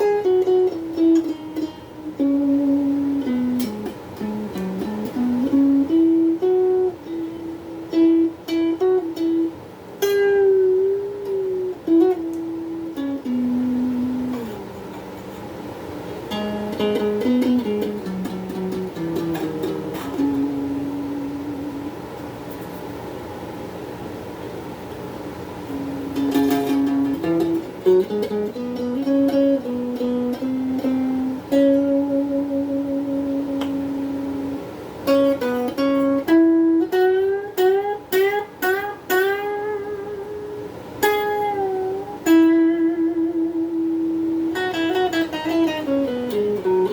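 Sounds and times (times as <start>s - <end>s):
electric guitar melody: 0.0s - 23.0s, 24.9s - 46.9s.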